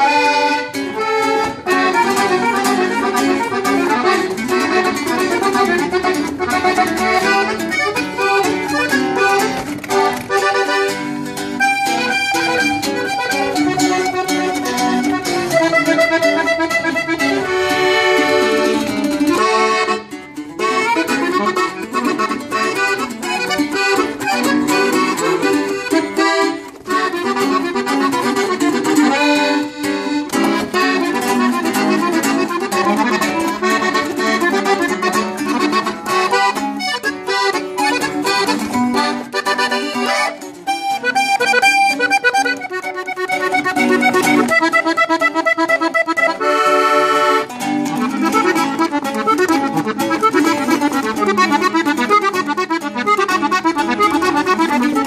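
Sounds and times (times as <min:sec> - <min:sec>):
accordion melody: 0:00.0 - 0:55.0
strummed bass guitar: 0:00.0 - 0:55.0.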